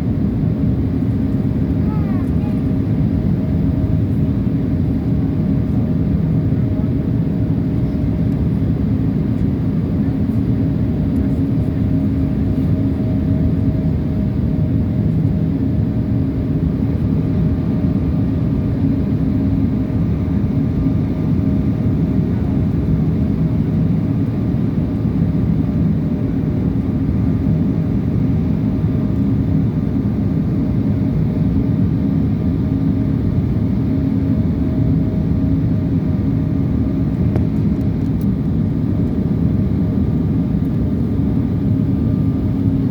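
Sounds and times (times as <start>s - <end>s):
airliner cabin drone: 0.0s - 42.9s.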